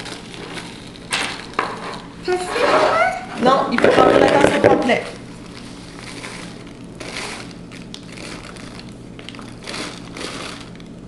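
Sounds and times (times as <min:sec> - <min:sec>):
paper bag rustling: 0:00.0 - 0:03.1, 0:03.8 - 0:11.0.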